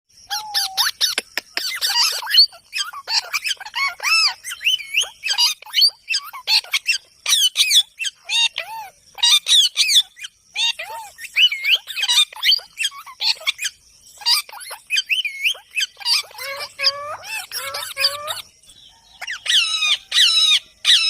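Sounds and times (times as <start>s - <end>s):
parrot squawking: 0.3s - 18.5s, 19.2s - 21.0s.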